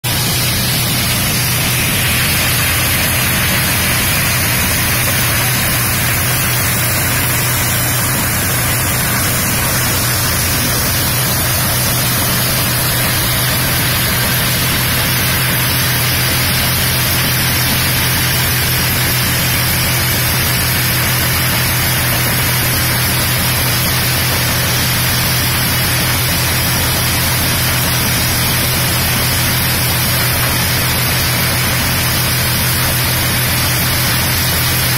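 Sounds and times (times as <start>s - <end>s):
engine humming: 0.0s - 34.9s
threshing machine rushing: 0.0s - 34.9s.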